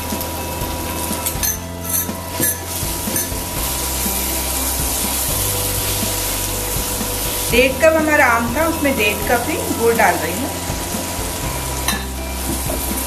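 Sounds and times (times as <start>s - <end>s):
mango pieces sizzling in oil: 0.0s - 13.0s.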